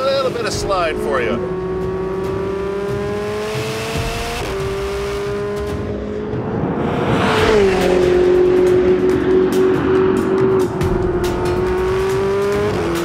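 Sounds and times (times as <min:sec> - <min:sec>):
sports car engine under load: 0:00.0 - 0:13.0.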